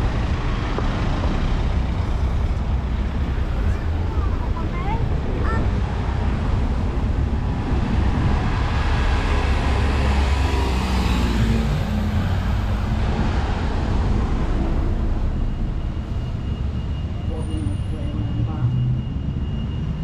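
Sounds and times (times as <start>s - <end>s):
low traffic rumble: 0.0s - 20.0s.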